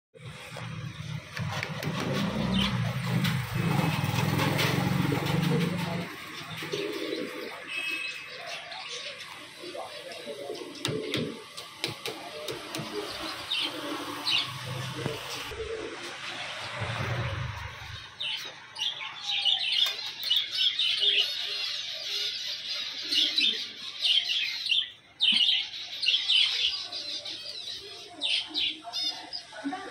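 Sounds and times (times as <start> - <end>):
small birds chirping: 0.2 - 29.9.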